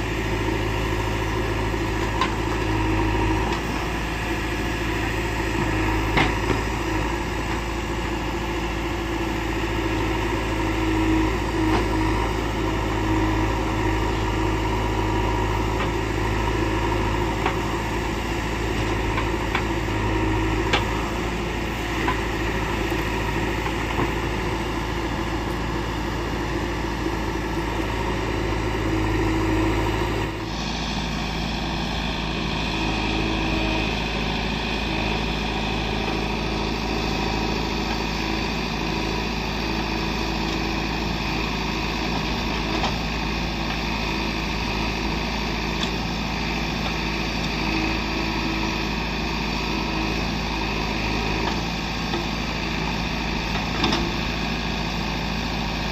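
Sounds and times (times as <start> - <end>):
diesel engine of heavy machinery: 0.0 - 55.9.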